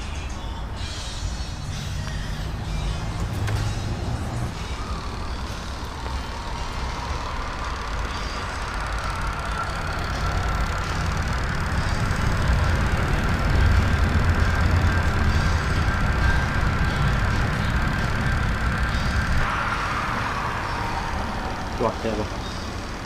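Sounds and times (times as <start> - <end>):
spin-dryer motor humming: 2.0 - 23.0.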